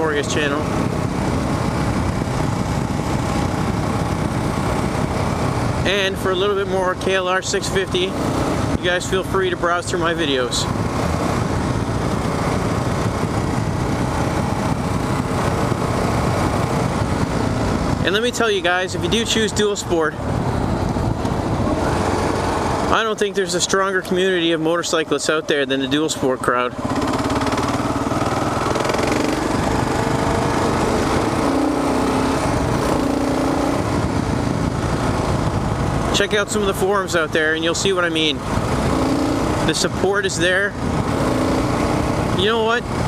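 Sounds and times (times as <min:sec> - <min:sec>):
wind rush: 0:00.0 - 0:25.6, 0:26.8 - 0:43.0
motorcycle engine running: 0:00.0 - 0:43.0.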